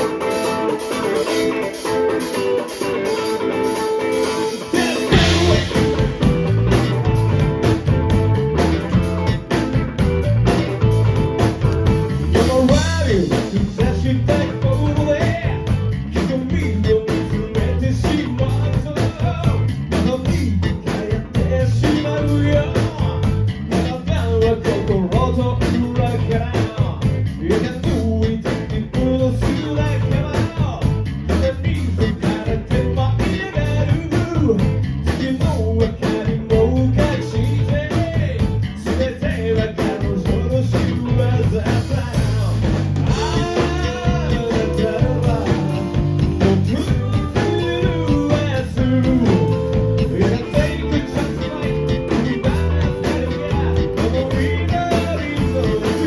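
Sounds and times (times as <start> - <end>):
drum kit beat: 0.0 - 56.0
electric guitar: 0.0 - 56.0
person singing: 4.3 - 6.8, 12.2 - 30.7, 31.3 - 56.0.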